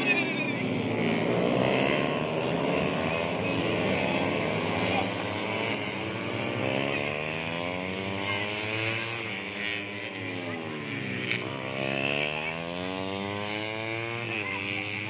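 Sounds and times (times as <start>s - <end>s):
race motorcycles revving past: 0.0s - 15.0s.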